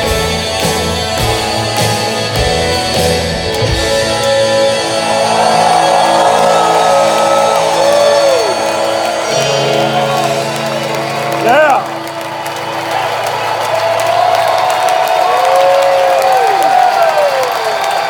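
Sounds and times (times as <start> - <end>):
electric guitar chords: 0.0 - 15.2.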